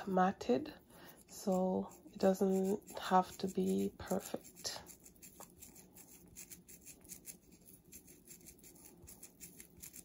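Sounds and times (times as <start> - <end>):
scratchy rubbing of hair: 1.1 - 10.0.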